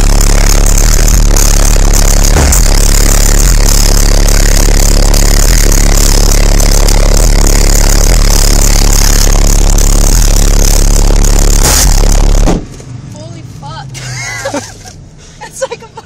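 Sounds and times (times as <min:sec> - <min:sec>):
distorted deep bass tone: 0:00.0 - 0:14.6.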